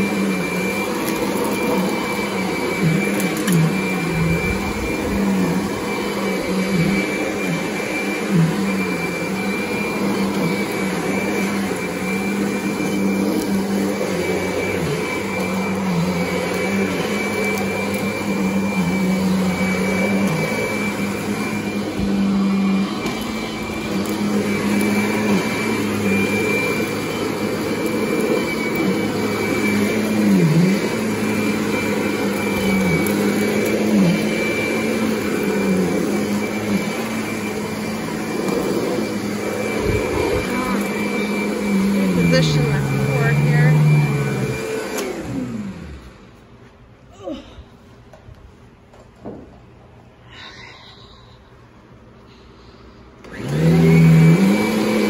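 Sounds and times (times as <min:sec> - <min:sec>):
vacuum cleaner running on carpet: 0:00.0 - 0:46.6, 0:53.1 - 0:55.0.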